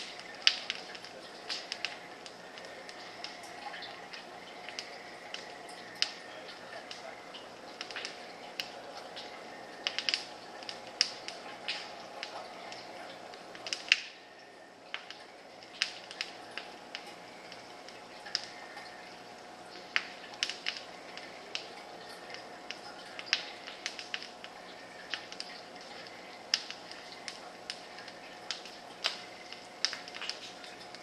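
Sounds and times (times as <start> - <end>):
sharp ticks and clicks: 0.0 - 14.2, 14.9 - 31.0
faint steady hum: 0.0 - 31.0.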